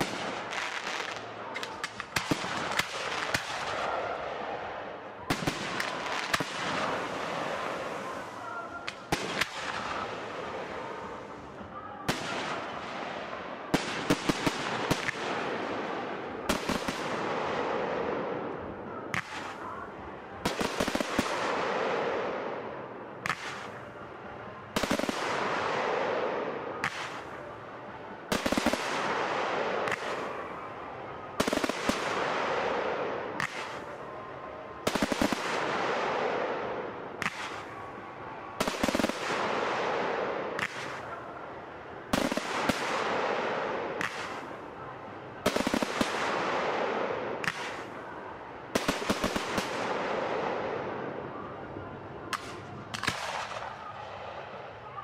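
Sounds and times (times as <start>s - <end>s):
fireworks bursting bangs: 0.0s - 19.8s, 20.4s - 23.8s, 24.7s - 27.6s, 28.2s - 30.7s, 31.3s - 34.1s, 34.8s - 37.9s, 38.5s - 41.3s, 42.0s - 44.8s, 45.4s - 48.0s, 48.6s - 51.1s.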